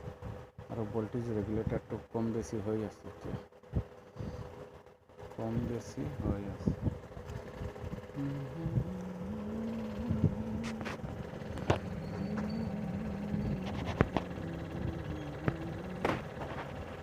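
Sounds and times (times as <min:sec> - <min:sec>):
small electric motor humming: 0:02.8 - 0:17.0.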